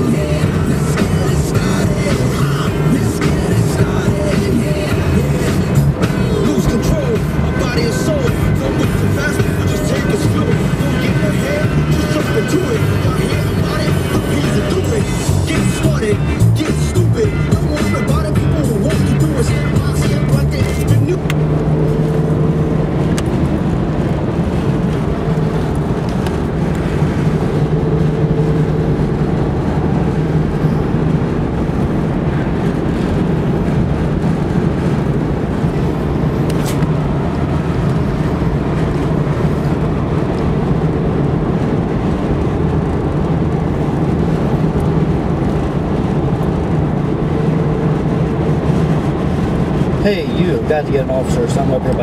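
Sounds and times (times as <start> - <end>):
car engine drone: 0.0 - 52.0
tyre road noise: 0.0 - 52.0.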